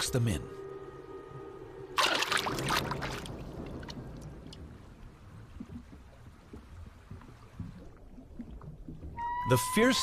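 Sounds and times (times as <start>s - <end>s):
watery rushing: 0.9s - 10.0s.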